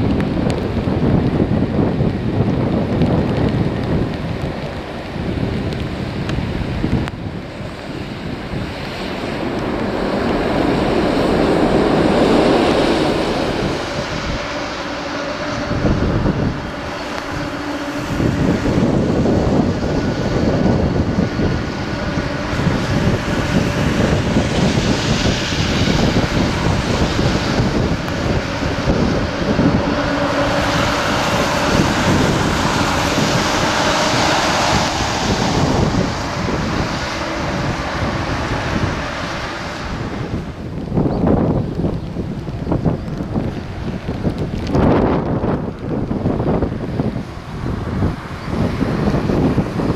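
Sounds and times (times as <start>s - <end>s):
airliner takeoff thrust: 0.0s - 49.9s
jet engines humming: 0.0s - 49.9s
wind buffeting microphone: 0.0s - 49.9s.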